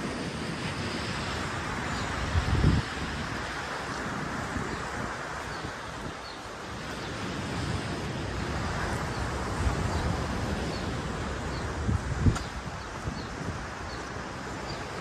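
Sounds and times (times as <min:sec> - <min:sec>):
leaves and palm fronds rustling: 0:00.0 - 0:15.0
wind buffeting microphone: 0:00.0 - 0:15.0.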